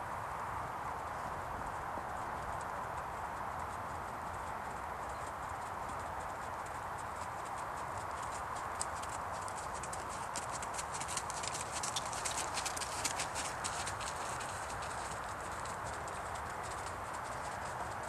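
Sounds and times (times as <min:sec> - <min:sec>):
horse hooves on arena surface: 0:00.5 - 0:18.0.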